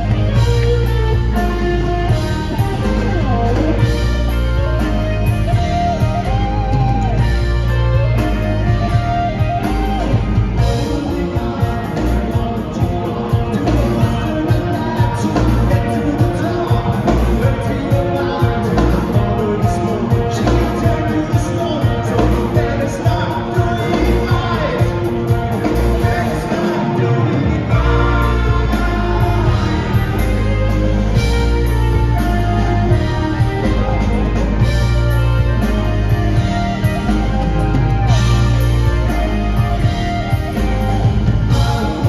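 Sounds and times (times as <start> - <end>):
bass guitar: 0.0 - 42.0
drums: 0.0 - 42.0
electric guitar: 0.0 - 42.0
person singing: 0.0 - 42.0.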